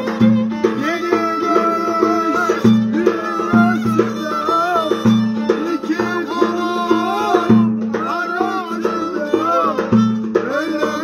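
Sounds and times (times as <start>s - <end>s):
drum booming beat: 0.0s - 11.0s
violin playing folk tune: 0.0s - 11.0s.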